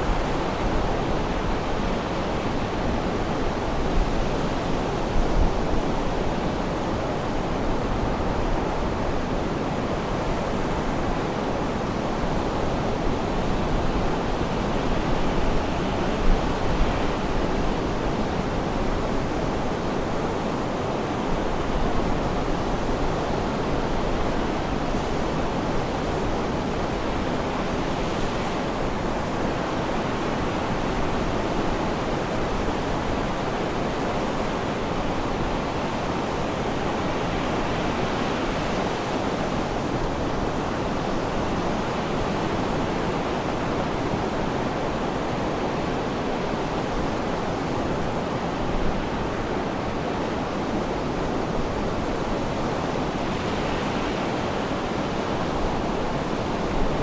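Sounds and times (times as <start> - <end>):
sea surf washing: 0.0 - 57.0.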